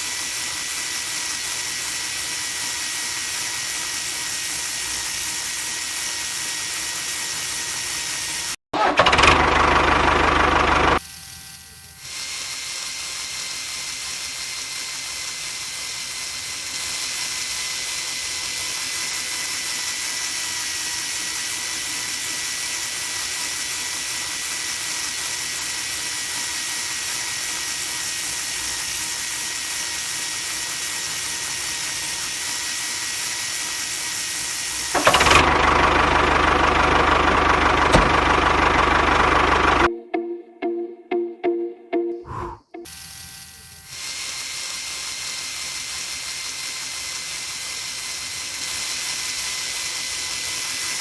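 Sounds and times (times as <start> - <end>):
small electric motor whining: 0.0 - 8.6, 9.2 - 39.9, 42.9 - 51.0.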